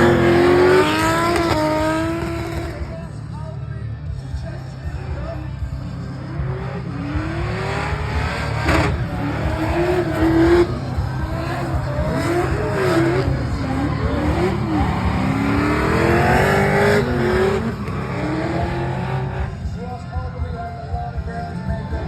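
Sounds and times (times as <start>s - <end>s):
car engines revving hard: 0.0s - 3.2s, 4.9s - 20.0s.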